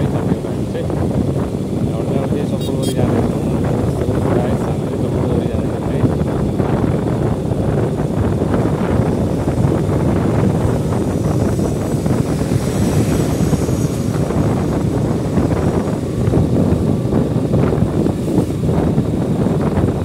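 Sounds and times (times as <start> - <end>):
motorbike running: 0.0 - 20.0
wind rushing over microphone: 0.0 - 20.0.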